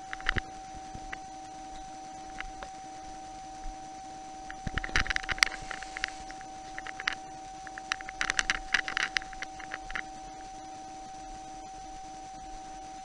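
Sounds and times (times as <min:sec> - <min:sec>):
electrical hum with steady tone: 0:00.0 - 0:13.0.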